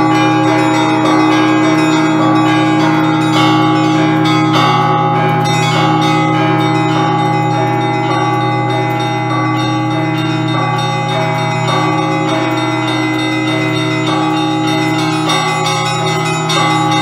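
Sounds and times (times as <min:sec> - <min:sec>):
large bells humming: 0:00.0 - 0:17.0
small bells struck quickly: 0:00.0 - 0:17.0.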